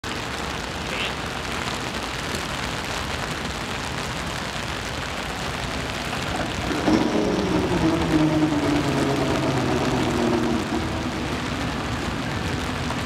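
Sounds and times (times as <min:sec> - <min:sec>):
rain on pavement and gravel: 0:00.0 - 0:13.0.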